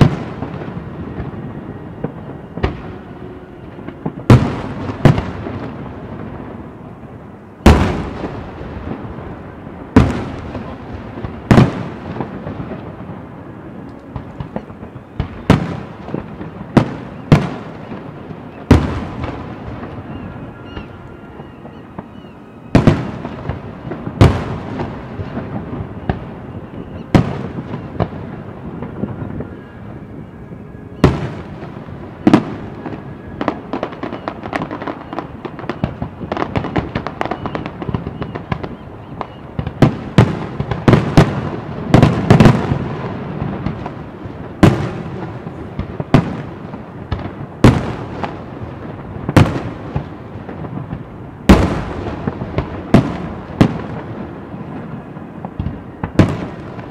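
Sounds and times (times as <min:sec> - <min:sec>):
fireworks booming: 0:00.0 - 0:56.9.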